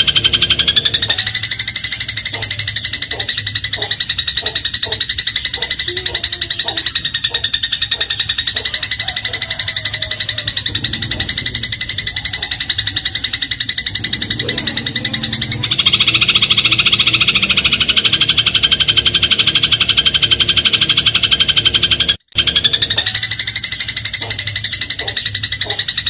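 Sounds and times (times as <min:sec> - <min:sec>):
sparrow rattling chatter: 0:00.0 - 0:26.0.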